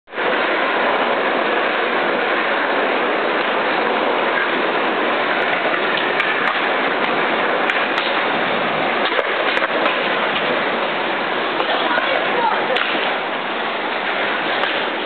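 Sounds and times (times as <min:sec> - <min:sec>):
skateboard wheels rolling on concrete: 0:00.1 - 0:15.0.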